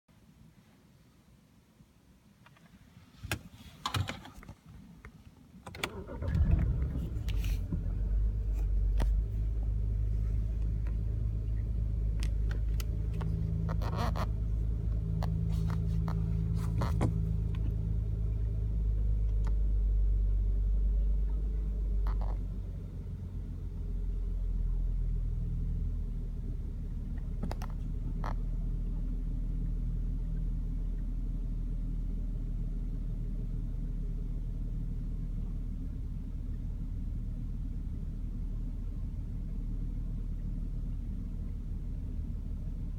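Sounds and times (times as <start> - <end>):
car engine starting: 5.6 - 42.9
rough engine idle: 5.9 - 42.9.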